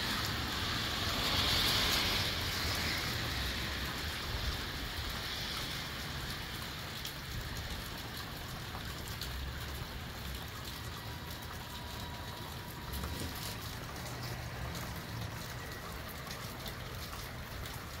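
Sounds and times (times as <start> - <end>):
rain hissing: 0.0 - 18.0
raindrops ticking: 0.1 - 18.0.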